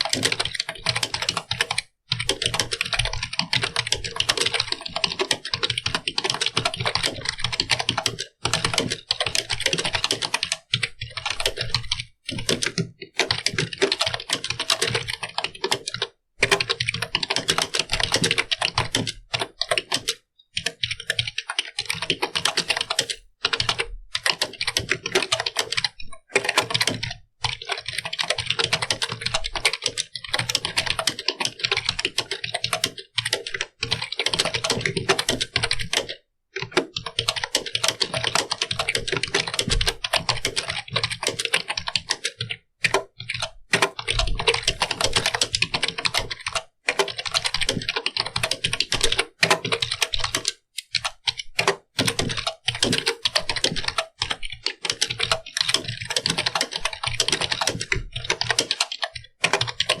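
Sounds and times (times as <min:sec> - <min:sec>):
typing on computer keyboard: 0:00.0 - 1:00.0.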